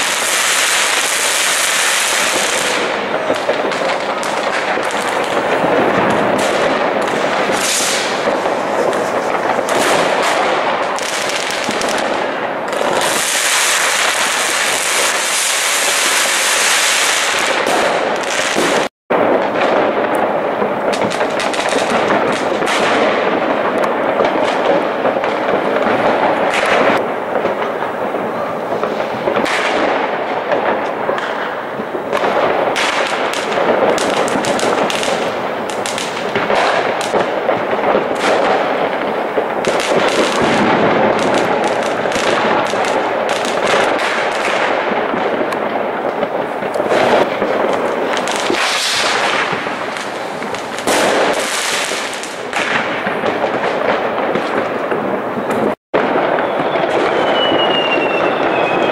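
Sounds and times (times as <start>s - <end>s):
fireworks crackling and banging: 0.0s - 58.9s.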